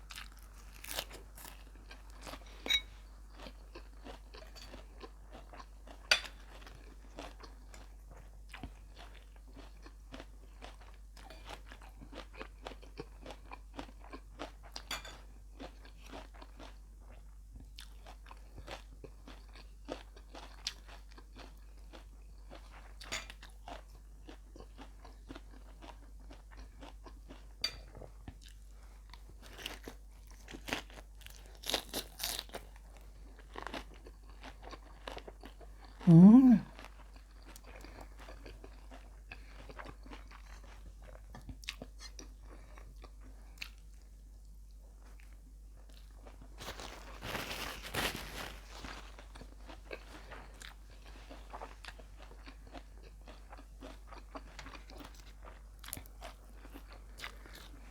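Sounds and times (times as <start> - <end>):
chewing crunches: 0.0 - 44.0, 45.0 - 57.9.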